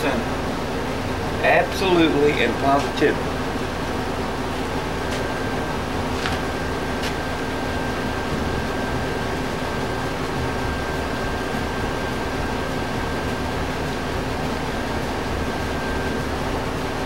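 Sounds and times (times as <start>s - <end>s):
electric machine hum: 0.0s - 17.0s
thin high whine: 0.0s - 17.0s.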